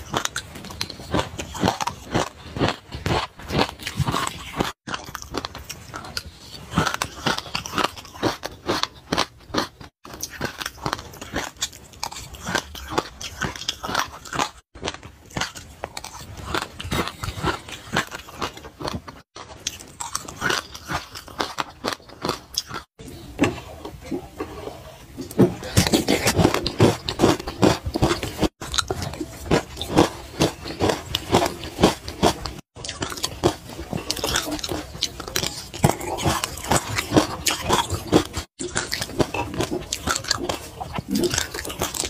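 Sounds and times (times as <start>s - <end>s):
chewing and crunching seeds: 0.0s - 42.0s.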